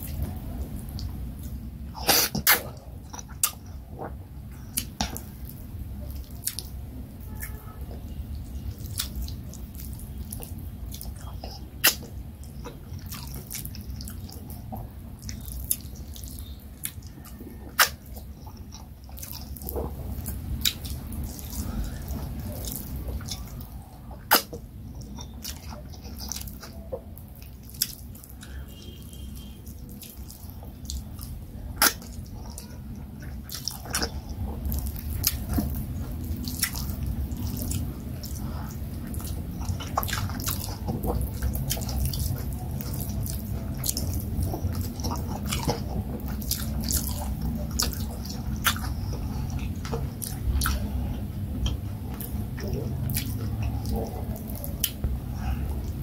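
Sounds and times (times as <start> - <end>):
chewing food: 0.0 - 56.0
wet mouth clicks and smacks: 1.0 - 4.1, 4.7 - 5.4, 8.7 - 23.5, 24.2 - 32.6, 33.2 - 56.0.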